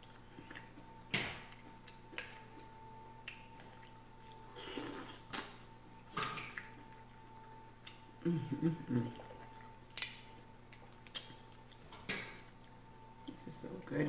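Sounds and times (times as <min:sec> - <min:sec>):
wet eating sound: 0:00.0 - 0:13.8.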